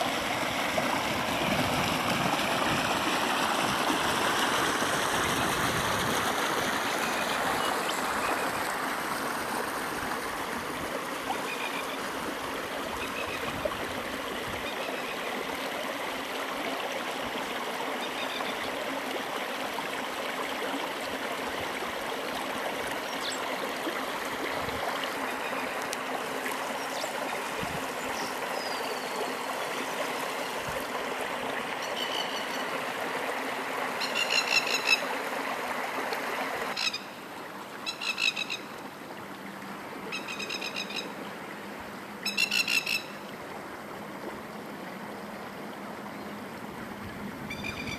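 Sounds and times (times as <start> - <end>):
water rushing and trickling: 0.0 - 47.9.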